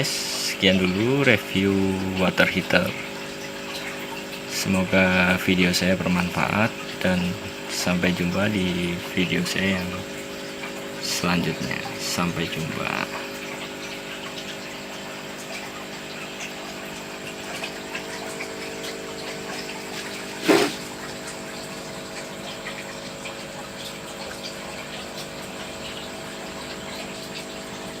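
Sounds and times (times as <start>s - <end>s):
aquarium water pump humming: 0.0s - 28.0s
water noise: 0.0s - 28.0s.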